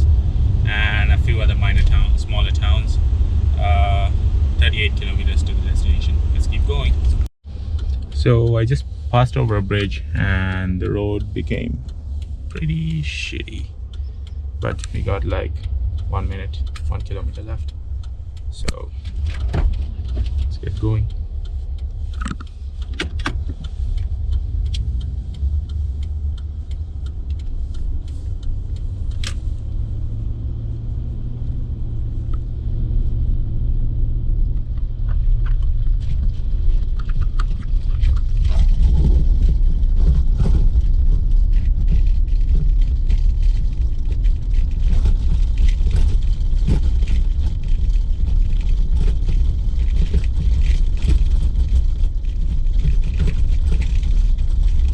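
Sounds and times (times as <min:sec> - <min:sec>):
truck driving on bumpy road: 0:00.0 - 0:54.9.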